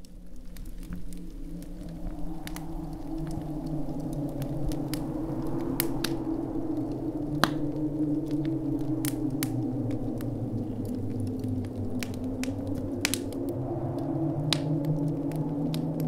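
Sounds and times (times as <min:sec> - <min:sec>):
crackling clicks: 0:00.0 - 0:16.0.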